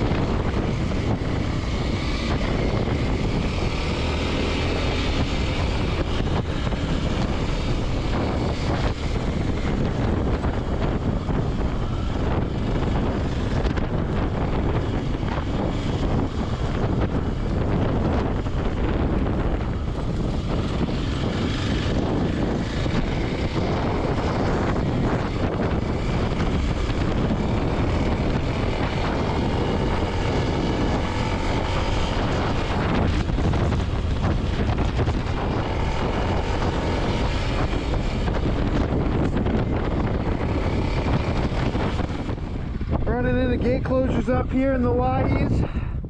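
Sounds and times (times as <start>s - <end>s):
motorcycle engine running: 0.0s - 45.8s
wind buffeting on microphone: 0.0s - 46.0s.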